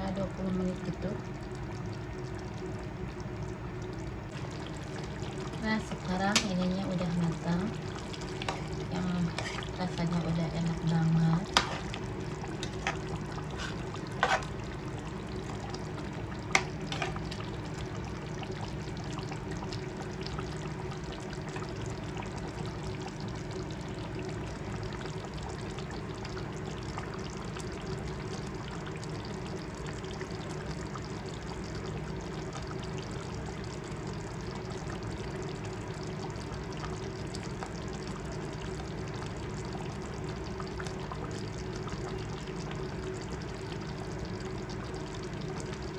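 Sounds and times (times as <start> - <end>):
pot simmering and bubbling: 0.0 - 45.9.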